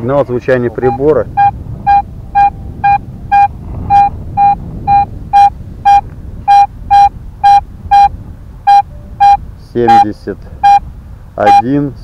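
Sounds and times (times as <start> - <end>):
metal detector beeping: 0.7 - 8.1, 8.7 - 10.8, 11.4 - 11.7.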